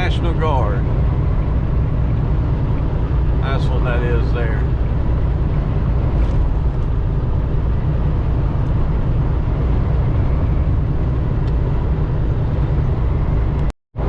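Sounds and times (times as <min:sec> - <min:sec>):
truck engine and road drone: 0:00.0 - 0:14.0.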